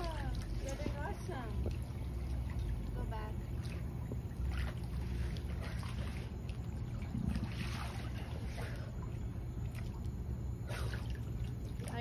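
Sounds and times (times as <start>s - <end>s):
pool water splashing: 0.0s - 12.0s
steady low hum: 0.0s - 12.0s.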